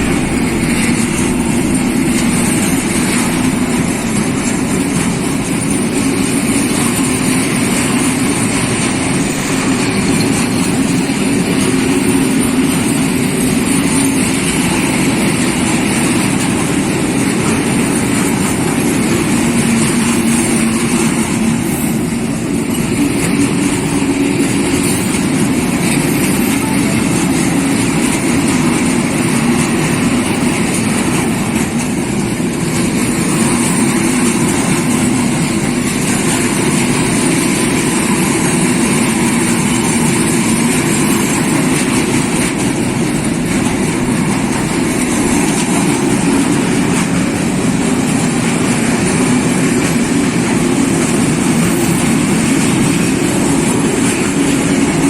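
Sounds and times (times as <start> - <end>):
diesel train engine drone: 0.0 - 55.0
train rushing noise: 0.0 - 55.0.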